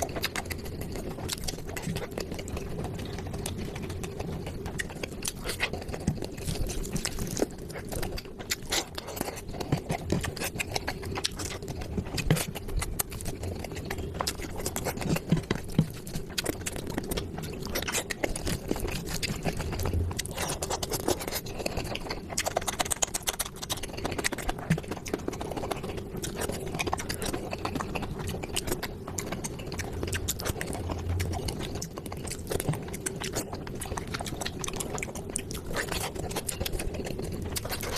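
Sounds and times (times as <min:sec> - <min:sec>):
steady low hum: 0:00.0 - 0:37.9
wet chewing and smacking: 0:00.0 - 0:37.9.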